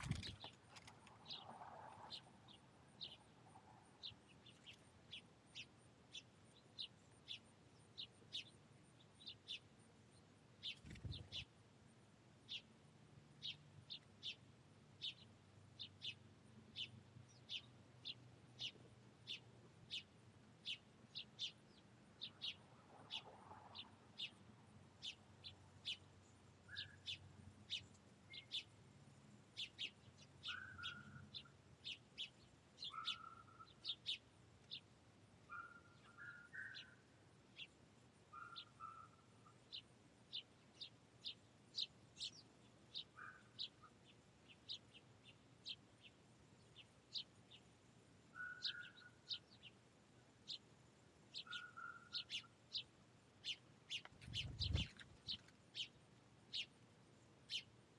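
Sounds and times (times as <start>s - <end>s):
finches chirping: 0.0s - 11.5s, 13.4s - 14.4s, 15.0s - 24.4s, 25.0s - 28.8s, 29.5s - 37.7s, 38.3s - 47.6s, 48.3s - 49.8s, 51.3s - 56.8s, 57.4s - 57.8s.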